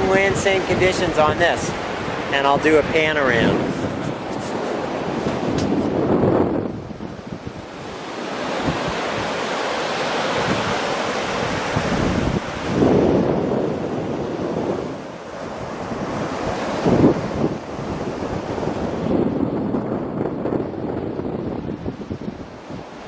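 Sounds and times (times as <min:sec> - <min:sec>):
ocean surf rushing: 0:00.0 - 0:23.0
wind buffeting microphone: 0:00.0 - 0:23.0.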